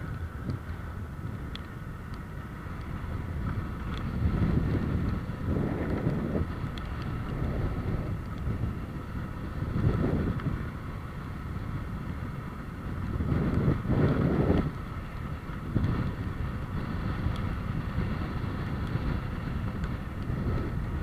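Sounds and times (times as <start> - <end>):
low steady rumble: 0.0 - 21.0
wind buffeting microphone: 0.0 - 21.0.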